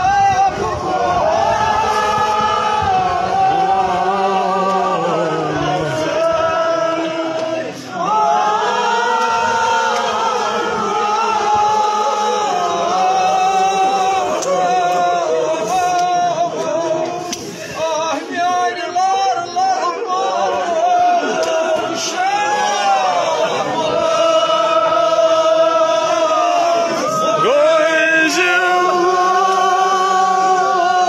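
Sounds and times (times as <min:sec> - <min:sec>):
group of voices chanting: 0:00.0 - 0:18.7, 0:19.4 - 0:31.0.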